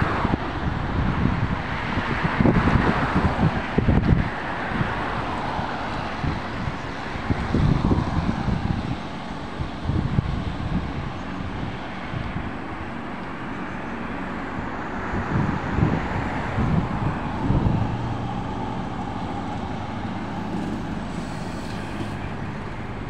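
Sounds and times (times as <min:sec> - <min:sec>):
electric bus pulling away: 0:00.0 - 0:23.0
street traffic noise: 0:00.0 - 0:23.0.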